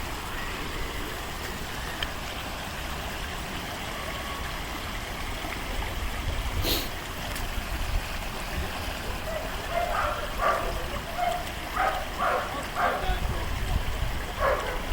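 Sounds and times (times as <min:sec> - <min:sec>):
creek water running over rocks: 0:00.0 - 0:14.9.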